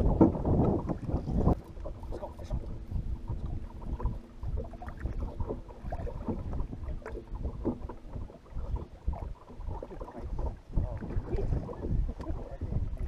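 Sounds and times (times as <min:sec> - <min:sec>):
small waves lapping against boat hull: 0:00.0 - 0:13.0
wind buffeting microphone: 0:00.0 - 0:13.0.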